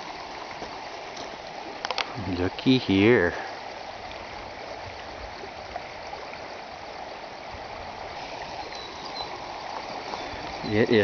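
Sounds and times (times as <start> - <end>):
flood water rushing over gravel: 0.0 - 11.0.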